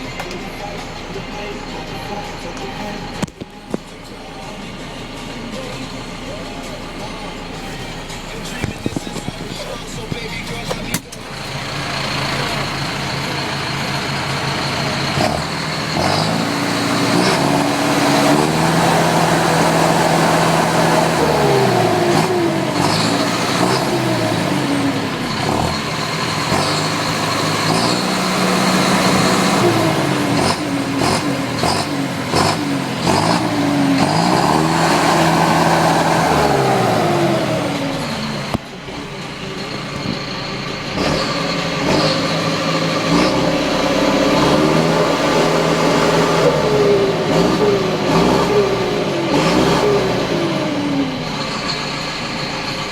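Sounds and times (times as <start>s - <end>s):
rushing turbo: 0.0s - 52.9s
tractor diesel engine revving: 0.0s - 52.9s.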